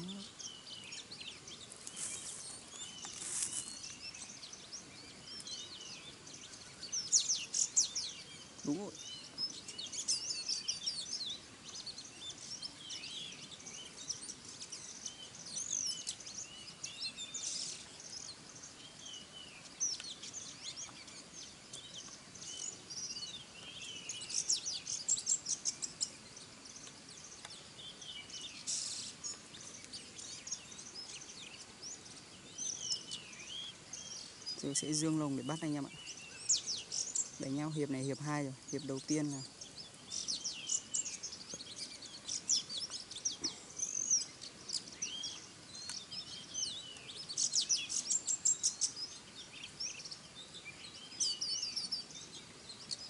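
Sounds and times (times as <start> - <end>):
faint steady hiss: 0.0 - 53.0
wild birds chirping: 0.0 - 53.0.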